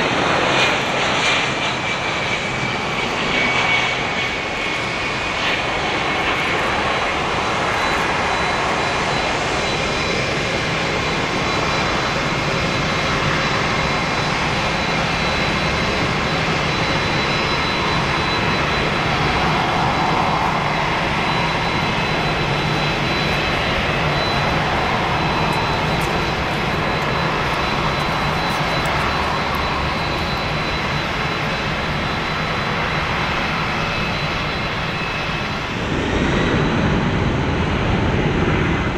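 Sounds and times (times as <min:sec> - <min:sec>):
high jet whine: 0:00.0 - 0:38.9
jet engines roaring: 0:00.0 - 0:38.9.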